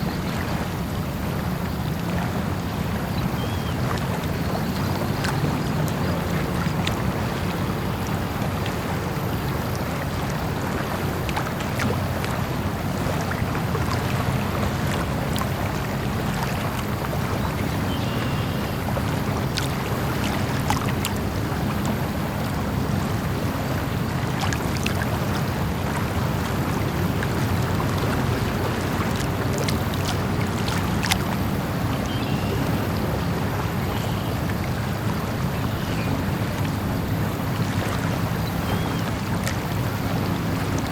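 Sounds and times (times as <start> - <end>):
small lapping splashes: 0.0 - 40.9
water washing: 0.0 - 40.9.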